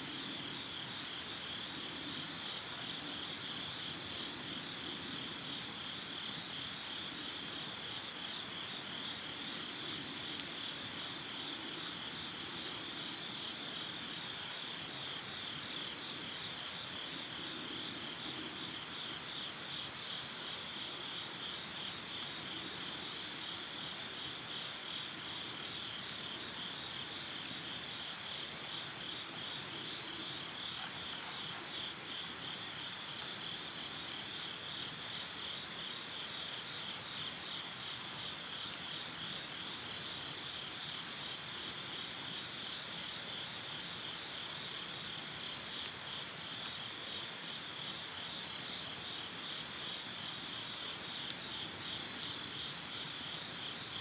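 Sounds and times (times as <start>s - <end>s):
insects chirping: 5.8s - 54.0s.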